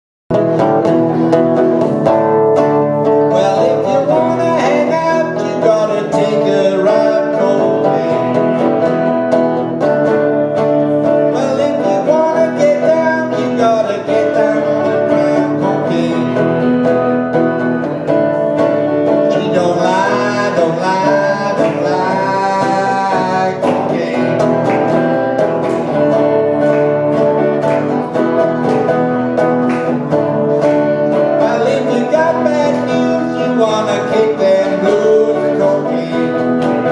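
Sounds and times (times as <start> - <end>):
acoustic guitar and plucked strings: 0.3 - 36.9.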